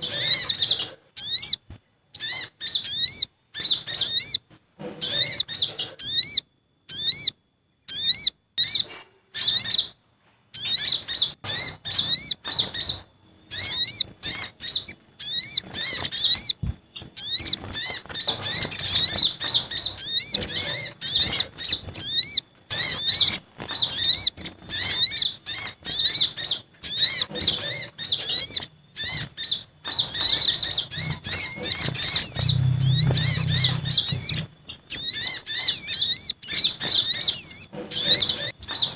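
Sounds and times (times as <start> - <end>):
sunbirds chirping: 0.0 - 38.9.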